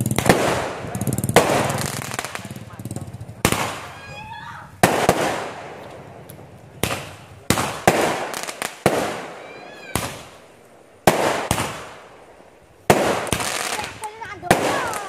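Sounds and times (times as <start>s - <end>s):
fireworks bangs with echo: 0.0s - 15.0s.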